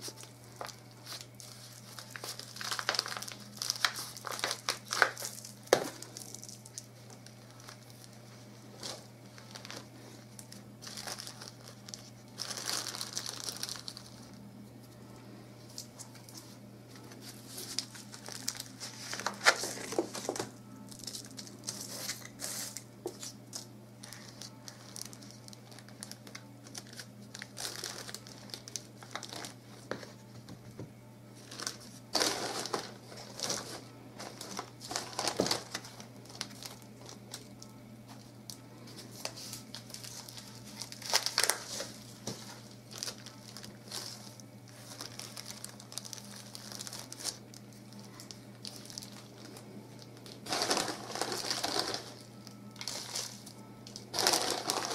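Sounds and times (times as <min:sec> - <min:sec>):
plastic bag and newspaper crinkling: 0:00.0 - 0:14.5, 0:15.6 - 0:30.6, 0:31.3 - 0:54.9
faint steady hum: 0:00.0 - 0:54.9.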